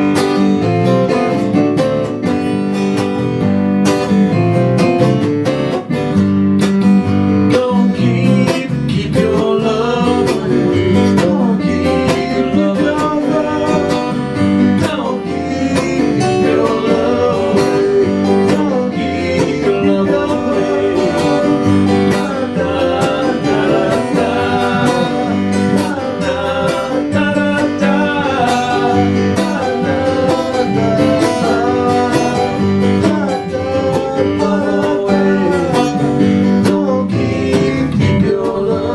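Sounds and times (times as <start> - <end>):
country acoustic guitar music: 0.0 - 38.9.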